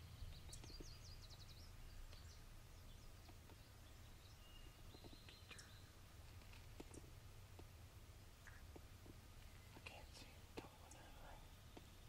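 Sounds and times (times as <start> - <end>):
low background rumble: 0.0 - 12.0
songbird chirping: 0.0 - 12.0.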